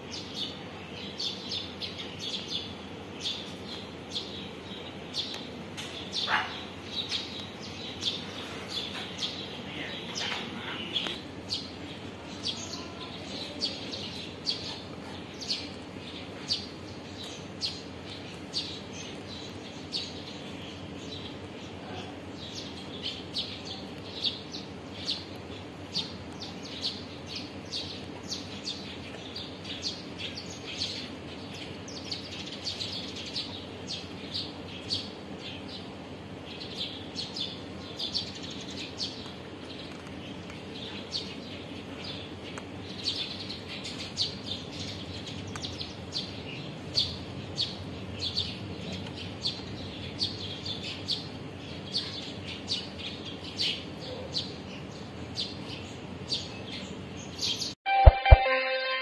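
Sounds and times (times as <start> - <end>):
small birds chirping: 0.0 - 57.8
low background noise: 0.0 - 59.0.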